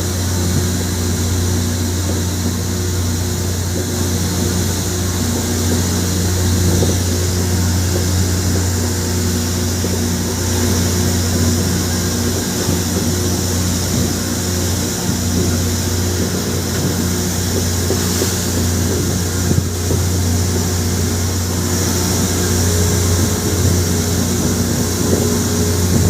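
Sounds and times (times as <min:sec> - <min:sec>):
rail grinding machine droning: 0:00.0 - 0:26.0.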